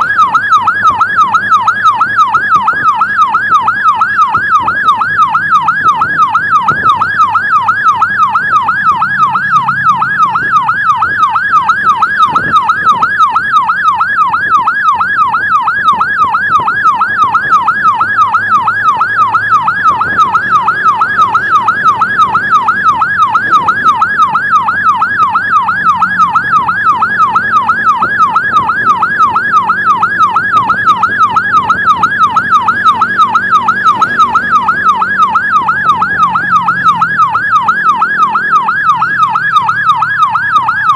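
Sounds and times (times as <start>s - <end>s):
electronic siren yelping: 0.0s - 40.9s
vehicle engine drone: 0.0s - 40.9s.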